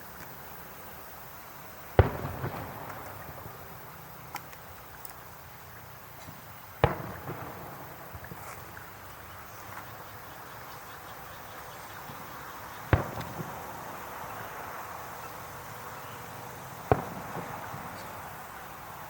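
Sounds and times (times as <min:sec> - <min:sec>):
background chirring: 0:00.0 - 0:19.0
fireworks bursting: 0:01.6 - 0:10.4, 0:11.9 - 0:19.0.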